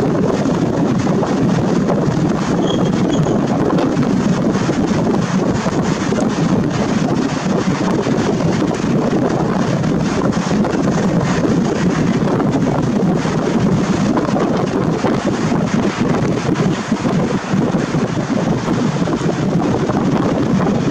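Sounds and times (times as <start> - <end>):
wind blowing on microphone: 0.0 - 20.9.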